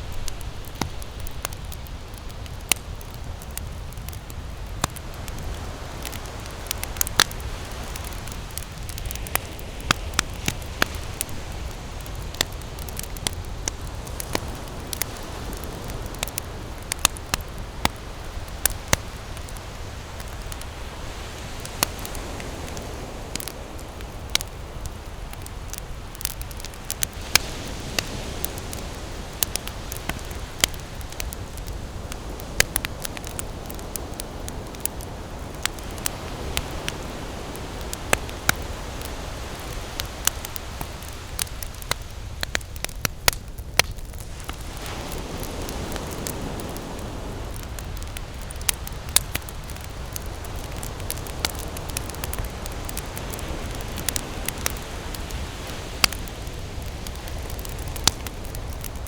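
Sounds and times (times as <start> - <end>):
campfire crackling: 0.0 - 59.0
low fire rumble: 0.0 - 59.0
sharp fire pops: 0.0 - 59.0.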